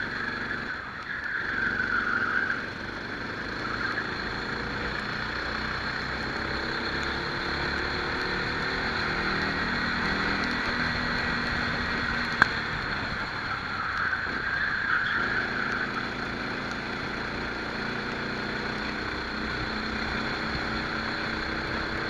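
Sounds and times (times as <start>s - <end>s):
kart engine accelerating: 0.0s - 22.0s.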